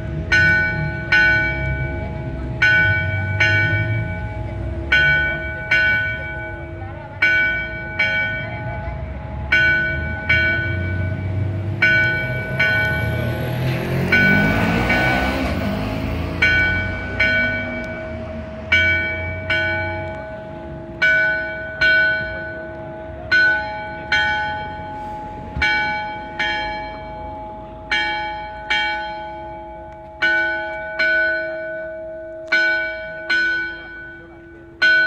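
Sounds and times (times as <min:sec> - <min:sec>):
church bell ringing: 0:00.0 - 0:35.0.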